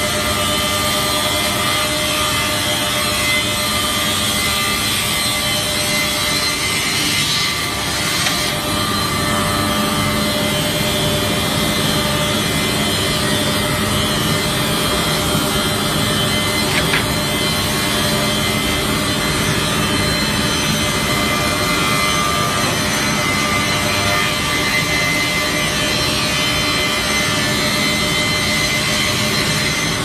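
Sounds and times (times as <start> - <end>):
wood saw machine drone: 0.0 - 30.0.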